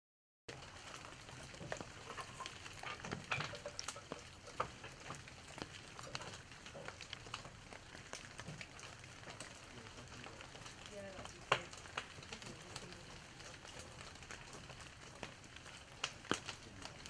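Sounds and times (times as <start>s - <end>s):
fire crackling and popping: 0.5s - 17.0s
steady fire hiss: 0.5s - 17.0s.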